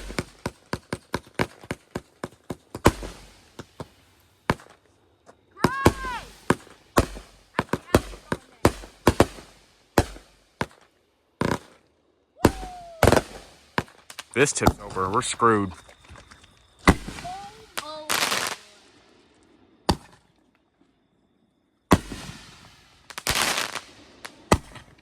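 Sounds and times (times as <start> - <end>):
firework bangs with crackling: 0.0 - 4.8, 5.6 - 11.8, 12.4 - 15.5, 16.6 - 20.3, 21.9 - 25.0
firework cracks: 0.0 - 4.8, 5.6 - 15.5, 16.5 - 20.4, 21.9 - 25.0.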